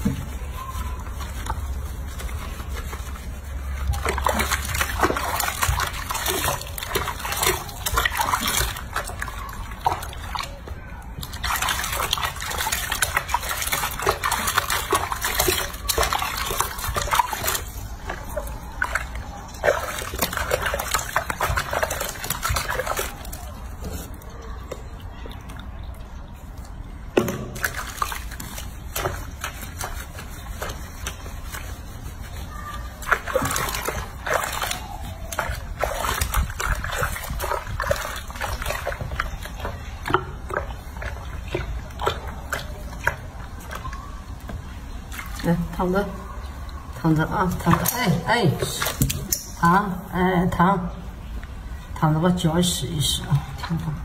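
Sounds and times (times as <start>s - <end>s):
water sloshing in washbasin: 0.0s - 54.0s.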